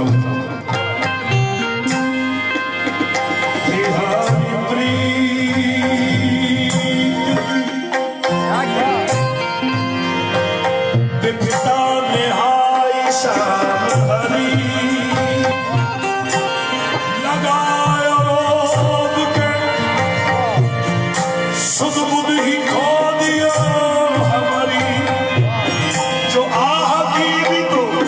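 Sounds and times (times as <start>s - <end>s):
man singing: 0.0s - 0.8s, 3.4s - 9.7s, 10.9s - 28.0s
harmonium: 0.0s - 28.0s
tabla rhythm: 0.0s - 28.0s.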